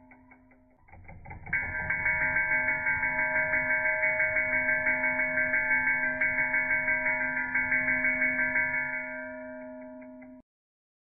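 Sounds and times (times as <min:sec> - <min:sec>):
electric door bell ringing: 0:00.0 - 0:10.4.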